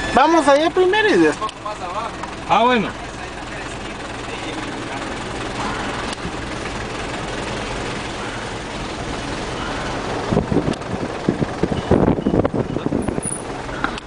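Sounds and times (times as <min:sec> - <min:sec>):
road noise: 0:00.0 - 0:14.0
vehicle engine: 0:00.0 - 0:14.0.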